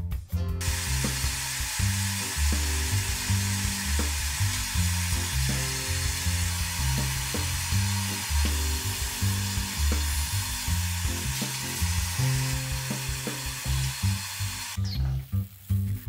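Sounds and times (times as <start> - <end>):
background music with bass: 0.0 - 16.0
blow dryer rushing air: 0.6 - 14.8.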